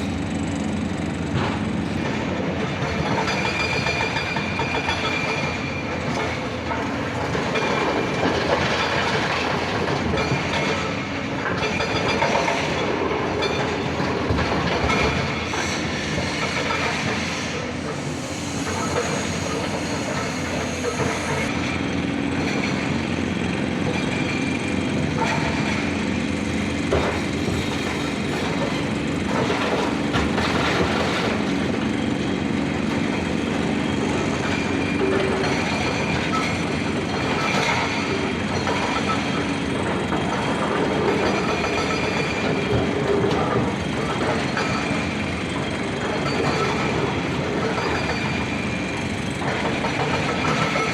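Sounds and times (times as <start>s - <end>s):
heavy truck running: 0.0s - 50.9s.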